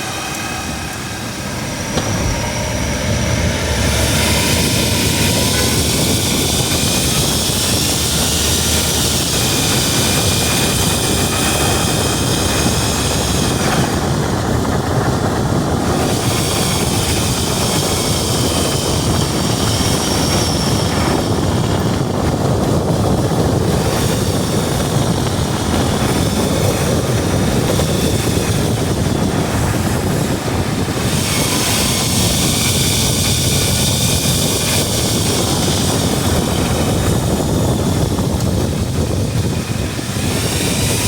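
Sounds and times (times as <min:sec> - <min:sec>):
car road and wind noise: 0:00.0 - 0:41.0.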